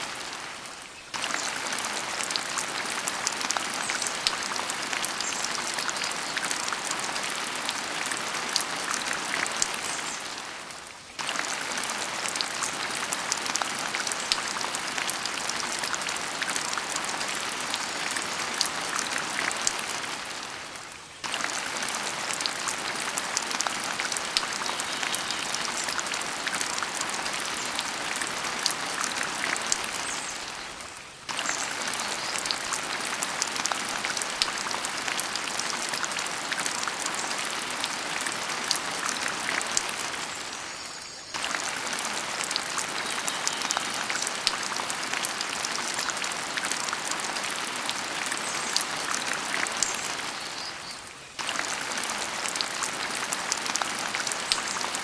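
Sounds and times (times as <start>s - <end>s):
rain-like hiss with fine ticks: 0.0s - 55.0s.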